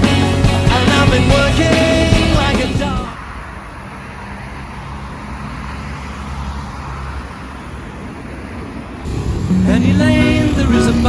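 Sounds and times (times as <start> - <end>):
road traffic rumble and hiss: 1.3 - 11.0.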